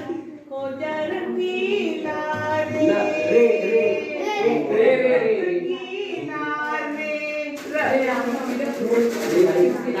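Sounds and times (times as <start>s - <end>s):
young voices singing together: 0.0s - 8.0s.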